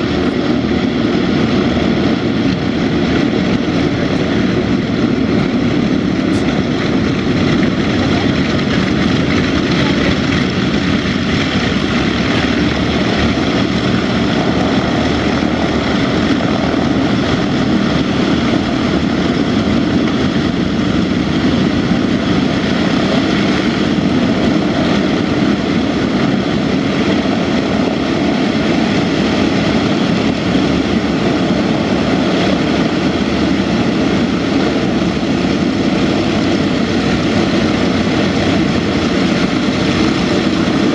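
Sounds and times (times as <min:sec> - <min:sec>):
propeller engines droning: 0:00.0 - 0:40.9.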